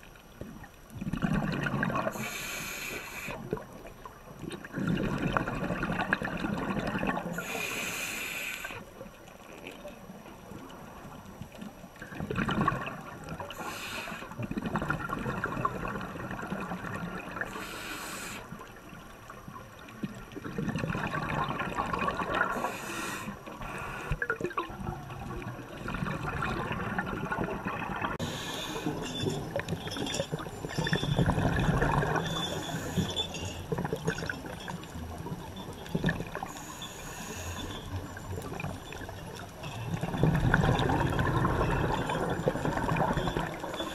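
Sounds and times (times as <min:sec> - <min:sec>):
underwater bubbling and gurgling: 0:00.0 - 0:43.9.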